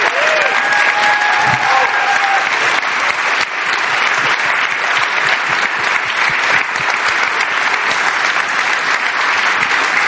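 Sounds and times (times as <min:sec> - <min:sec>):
large audience applauding: 0:00.0 - 0:10.0.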